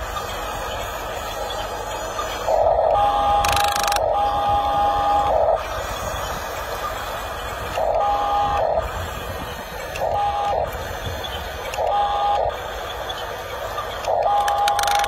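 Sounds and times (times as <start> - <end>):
toy bulldozer motors whining: 0.0 - 15.0.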